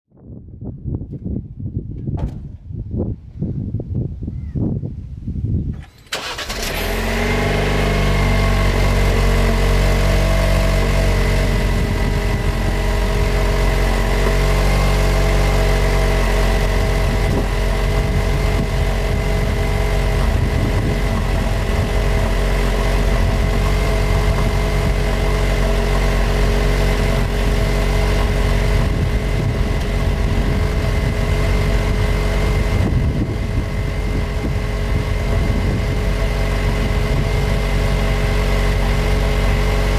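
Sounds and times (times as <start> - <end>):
car engine idling through exhaust: 6.2 - 39.9.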